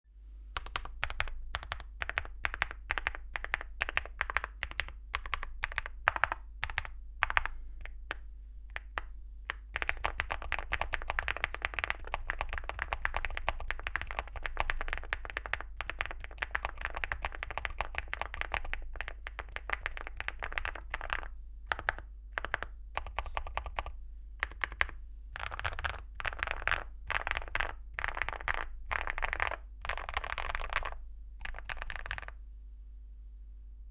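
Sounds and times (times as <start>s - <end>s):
mechanical keyboard typing: 0.6s - 32.4s.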